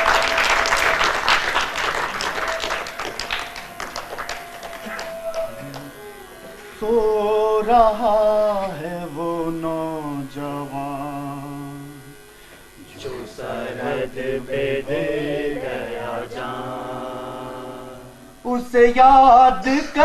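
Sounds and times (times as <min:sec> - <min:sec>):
person singing slowly: 0:02.9 - 0:20.0.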